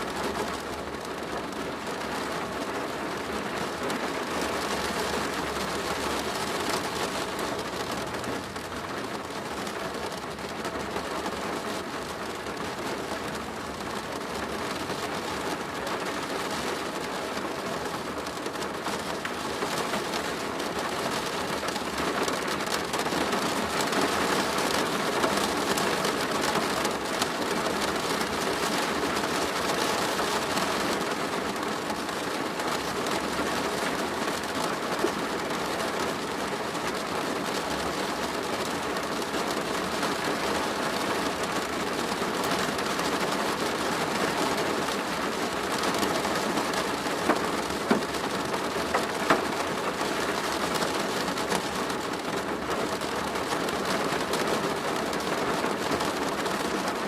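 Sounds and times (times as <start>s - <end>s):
rain on a plastic roof: 0.0s - 57.0s.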